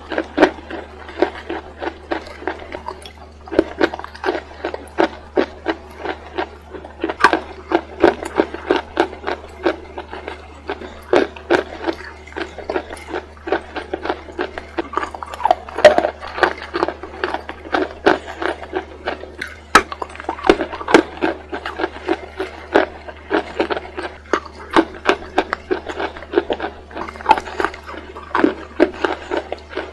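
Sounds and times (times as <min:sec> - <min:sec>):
chewing chalk crunches: 0:00.0 - 0:29.9
steady low hum: 0:00.0 - 0:29.9.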